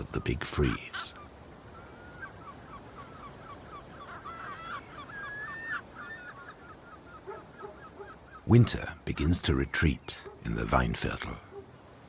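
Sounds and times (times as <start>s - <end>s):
flock of birds calling: 0.0s - 11.8s.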